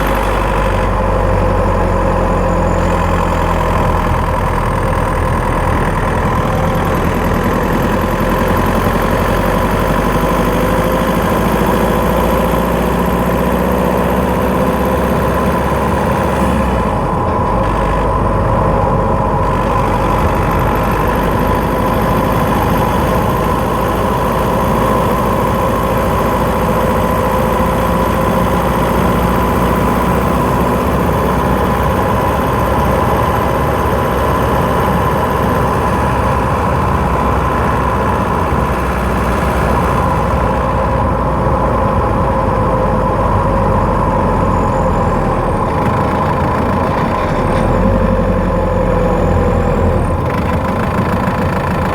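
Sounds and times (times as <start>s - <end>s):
diesel engine running: 0.0s - 51.9s
road noise: 0.0s - 51.9s
steady whine: 0.0s - 51.9s.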